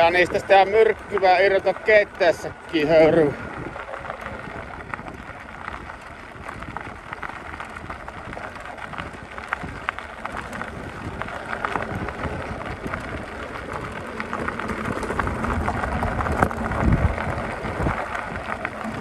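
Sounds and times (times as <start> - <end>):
tyres rolling over gravel: 0.0 - 19.0
wind on microphone: 0.0 - 19.0.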